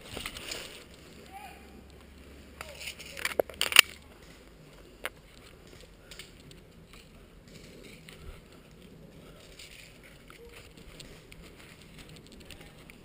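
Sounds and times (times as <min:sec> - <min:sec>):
faint rustling of movement: 0:00.0 - 0:13.0.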